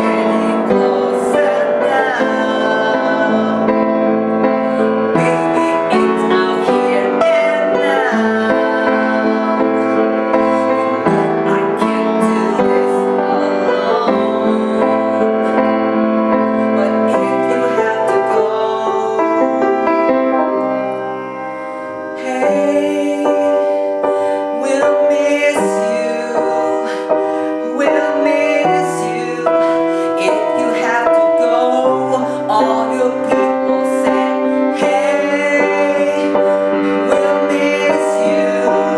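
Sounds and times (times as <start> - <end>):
piano-led instrumental music: 0.0 - 38.9.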